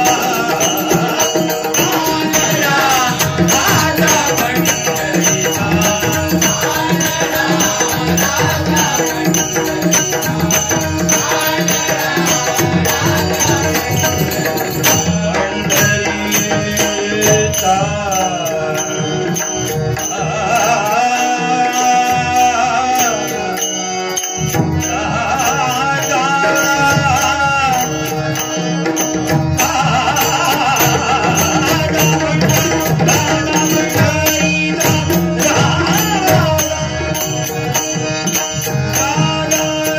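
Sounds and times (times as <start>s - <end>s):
man singing devotional song: 0.0s - 39.9s.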